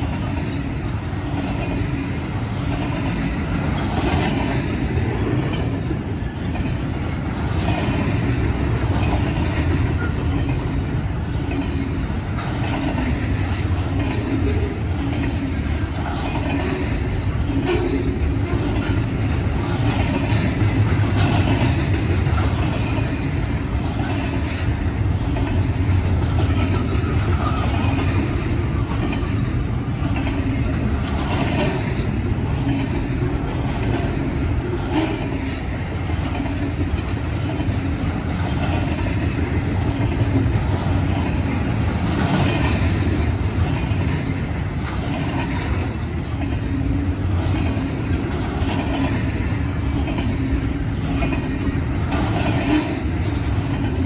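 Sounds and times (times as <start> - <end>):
freight train passing: 0.0 - 54.0
wheels clattering on rail: 0.0 - 54.0.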